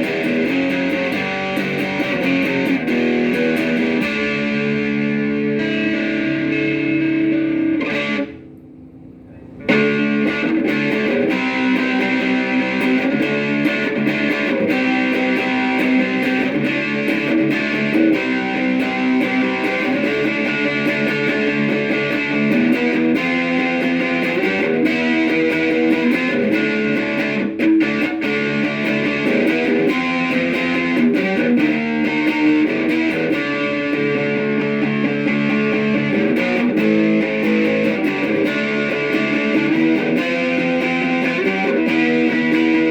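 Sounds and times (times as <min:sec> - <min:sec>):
electric guitar notes and chords: 0:00.0 - 0:42.9.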